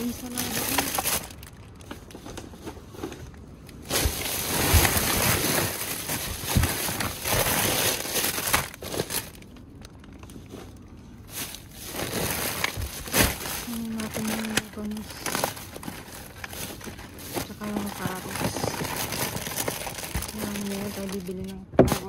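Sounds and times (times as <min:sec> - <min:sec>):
plastic bags rustling: 0:00.0 - 0:22.0.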